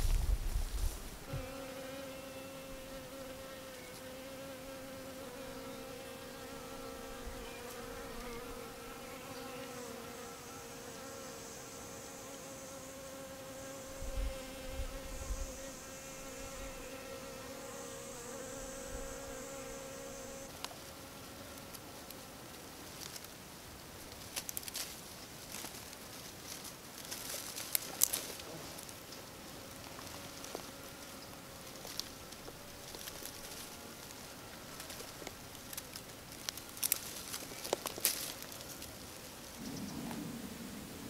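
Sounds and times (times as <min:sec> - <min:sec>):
insect buzzing: 0:00.0 - 0:22.4, 0:26.9 - 0:41.0.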